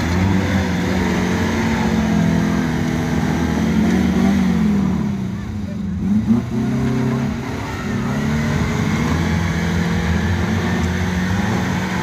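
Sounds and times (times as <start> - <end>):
vehicle engine running under load: 0.0 - 12.0.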